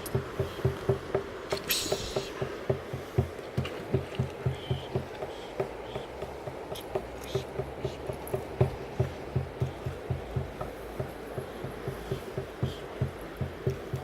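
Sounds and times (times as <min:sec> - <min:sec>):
hand drum beating: 0:00.0 - 0:14.0.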